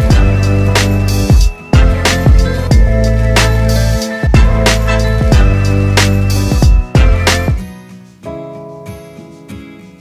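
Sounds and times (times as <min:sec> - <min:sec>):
background music with drum beat: 0:00.0 - 0:08.2.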